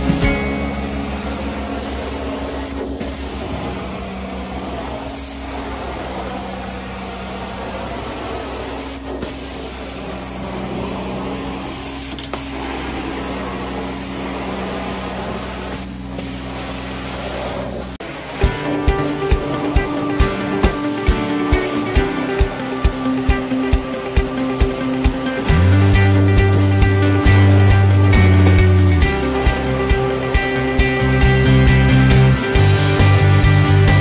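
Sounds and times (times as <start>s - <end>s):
extraction machine hum: 0.0s - 34.0s
suction air rushing: 0.0s - 34.0s.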